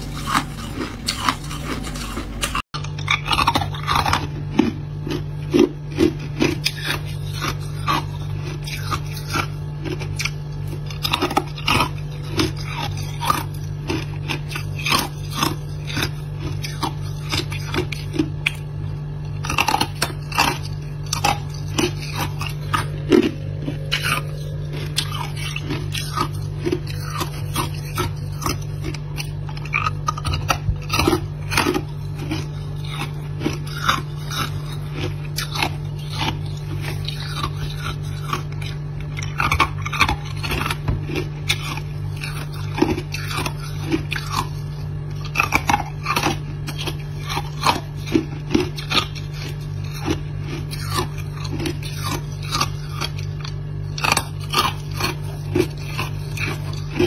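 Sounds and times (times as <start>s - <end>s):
frost crunching: 0.0s - 57.0s
steady low hum: 0.0s - 57.0s.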